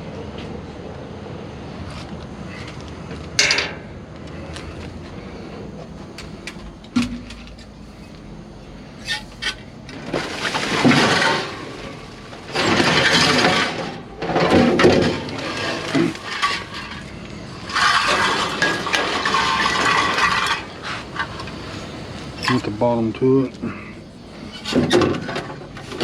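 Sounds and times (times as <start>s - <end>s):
rustling and scraping: 1.8s - 22.9s, 23.5s - 26.0s.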